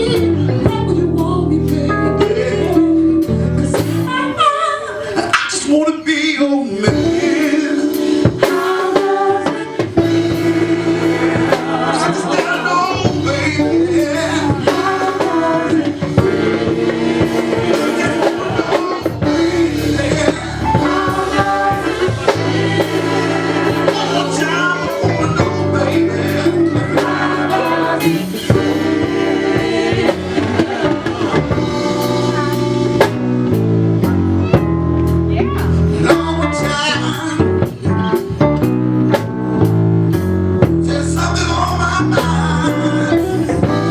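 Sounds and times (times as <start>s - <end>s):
person singing: 0.0s - 33.0s, 35.4s - 37.9s, 40.6s - 43.9s
live band playing: 0.0s - 43.9s.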